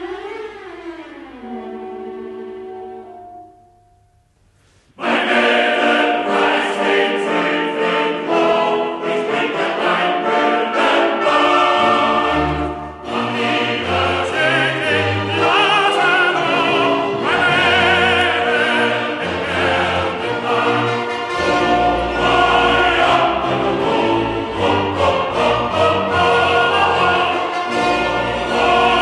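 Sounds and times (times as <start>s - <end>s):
orchestra playing: 0.0s - 4.1s, 5.1s - 29.0s
chorus singing: 4.9s - 29.0s.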